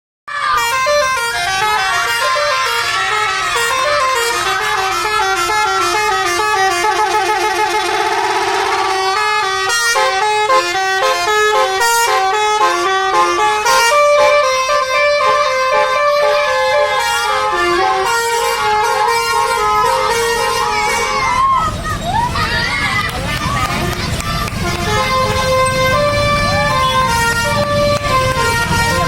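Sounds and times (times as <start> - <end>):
bus musical air horn: 0.3 - 21.5, 24.4 - 29.0.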